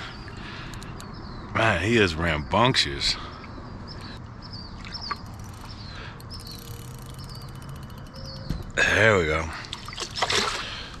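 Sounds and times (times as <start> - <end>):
bird chirping: 0.0 - 10.9.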